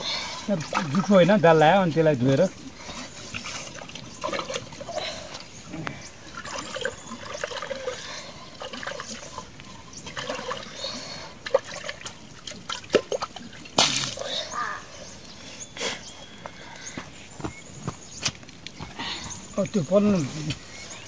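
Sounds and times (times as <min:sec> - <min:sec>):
water trickling and sloshing: 0:00.0 - 0:21.0.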